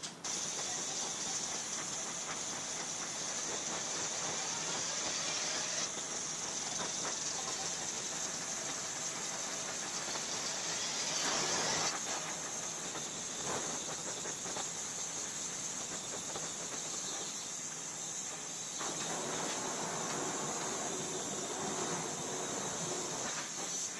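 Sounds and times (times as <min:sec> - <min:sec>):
gas torch flame hissing: 0:00.0 - 0:23.9.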